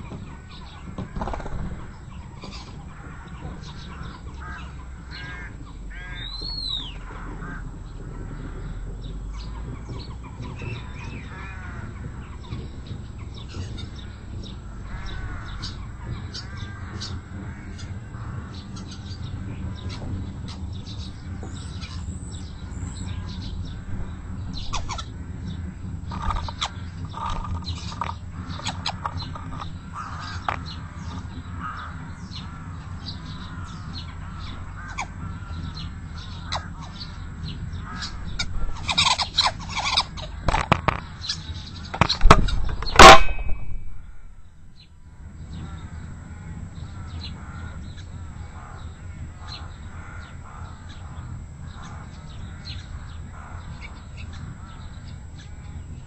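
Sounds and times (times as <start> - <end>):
birds singing and chirping: 0.0 - 56.0
low background hum: 0.0 - 56.0.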